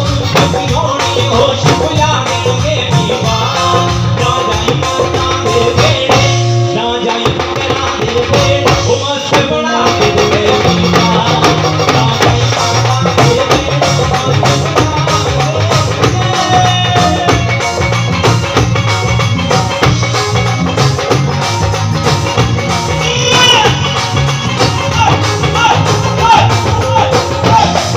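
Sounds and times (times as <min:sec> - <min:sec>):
man singing into microphone: 0:00.0 - 0:18.4, 0:22.9 - 0:27.9
bass line: 0:00.0 - 0:27.9
drums: 0:00.0 - 0:27.9
electric guitar: 0:00.0 - 0:27.9.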